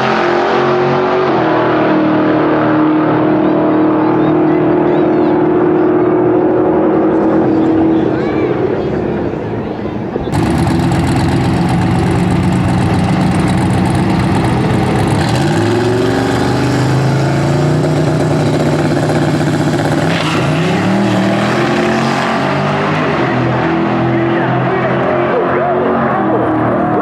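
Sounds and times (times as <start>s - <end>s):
loud racing truck engine: 0.0s - 9.4s, 10.0s - 27.0s.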